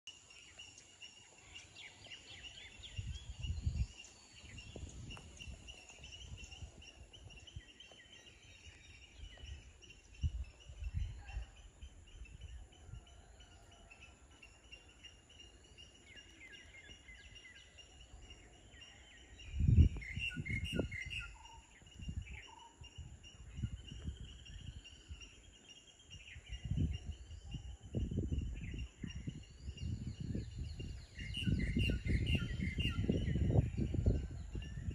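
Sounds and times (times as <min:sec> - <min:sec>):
birds chirping: 0:00.2 - 0:34.9
wind buffeting microphone: 0:01.5 - 0:13.4, 0:16.7 - 0:34.9.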